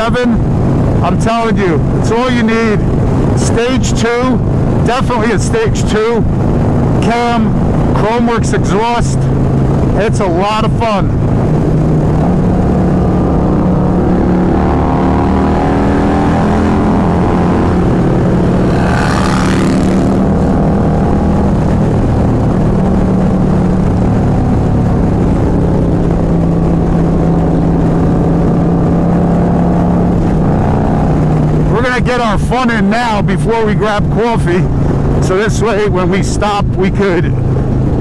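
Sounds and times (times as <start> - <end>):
motorcycle engine at speed: 0.0 - 38.0
wind rush: 0.0 - 38.0.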